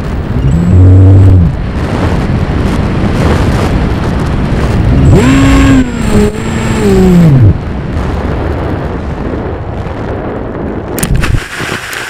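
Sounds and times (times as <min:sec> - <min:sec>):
loud wind rush: 0:00.0 - 0:12.0.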